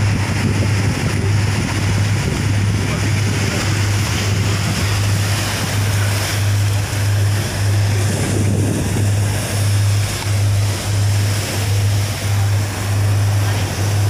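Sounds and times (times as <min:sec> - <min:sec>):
ship engine droning: 0:00.0 - 0:14.0
water rushing past hull: 0:00.0 - 0:14.0
wind on microphone: 0:00.0 - 0:14.0.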